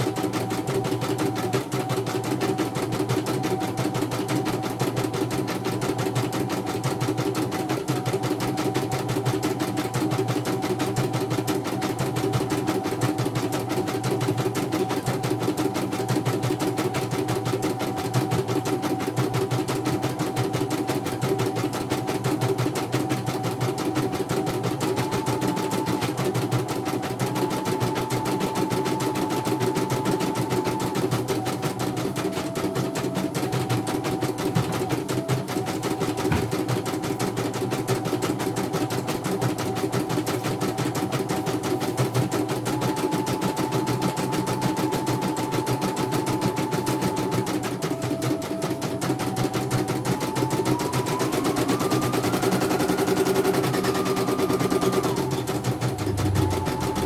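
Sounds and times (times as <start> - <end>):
embroidery machine stitching: 0.0 - 57.0.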